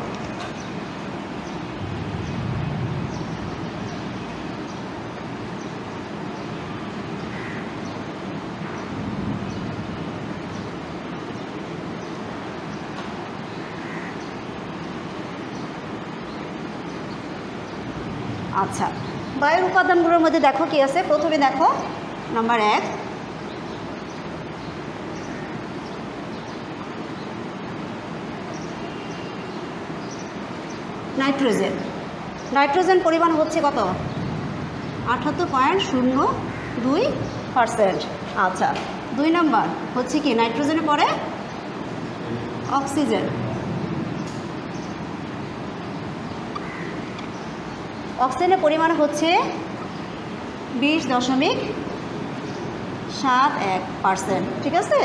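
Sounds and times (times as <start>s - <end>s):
steady rushing noise: 0.0s - 20.8s, 29.6s - 55.0s
steady rumbling background noise: 0.0s - 55.0s.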